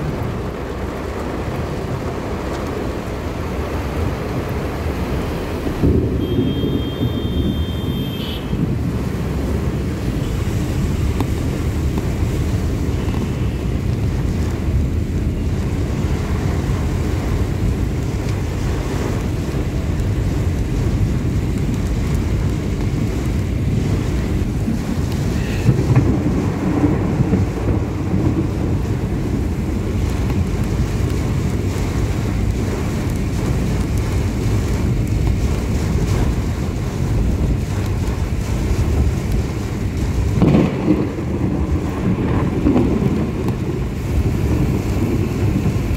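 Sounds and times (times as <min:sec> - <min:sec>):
heavy rain: 0:00.0 - 0:45.9
wind buffeting microphone: 0:08.5 - 0:45.9.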